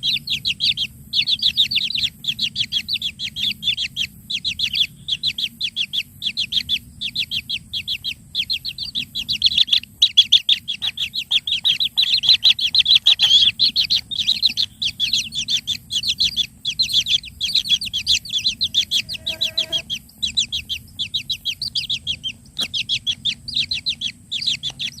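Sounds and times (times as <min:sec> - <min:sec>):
bird chirping rapidly: 0:00.0 - 0:25.0
low bird call: 0:00.0 - 0:25.0.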